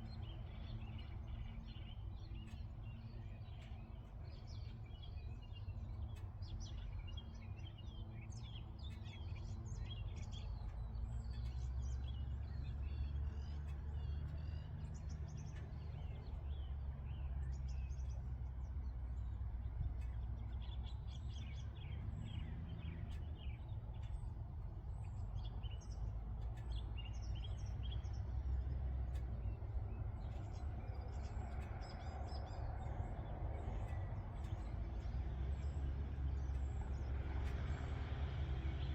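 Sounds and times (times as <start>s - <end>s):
approaching vehicle noise: 0.0s - 38.9s
small birds chirping: 0.0s - 38.9s
steady low rumble: 0.0s - 38.9s.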